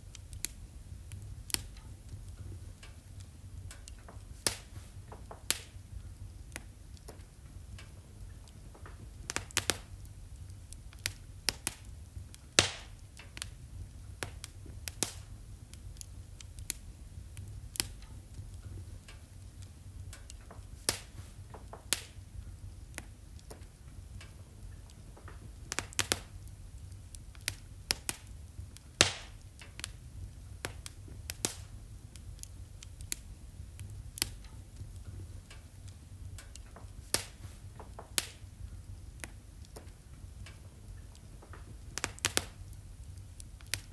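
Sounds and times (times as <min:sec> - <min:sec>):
fire crackling and popping: 0:00.0 - 0:43.9
low steady rumble: 0:00.0 - 0:43.9.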